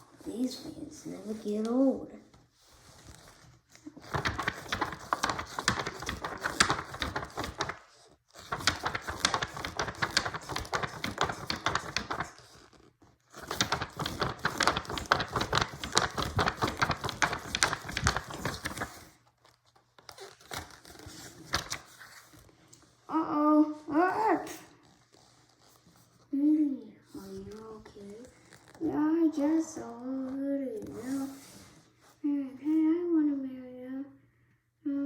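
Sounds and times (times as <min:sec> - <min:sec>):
book pages rustling and flapping: 0:00.2 - 0:23.1, 0:24.7 - 0:26.3, 0:27.1 - 0:32.2.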